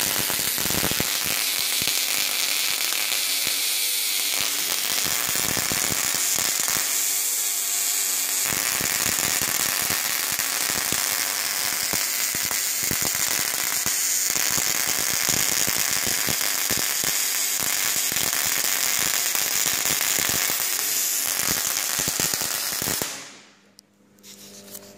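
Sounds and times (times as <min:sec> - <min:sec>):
tesla coil crackling: 0:00.0 - 0:07.4, 0:08.3 - 0:23.3.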